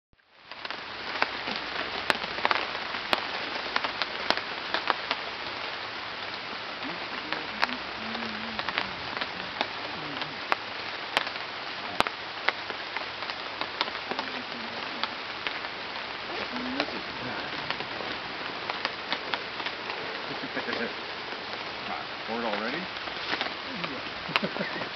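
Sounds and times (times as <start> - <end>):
rain pattering on foliage: 0.2 - 24.9.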